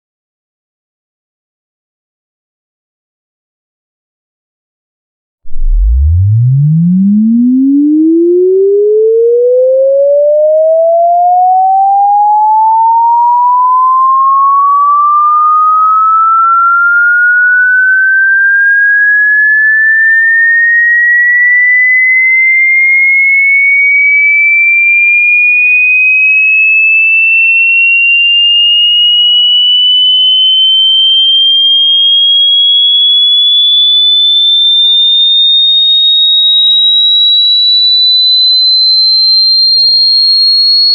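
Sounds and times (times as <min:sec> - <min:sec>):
rising electronic sine tone: 0:05.4 - 0:40.9.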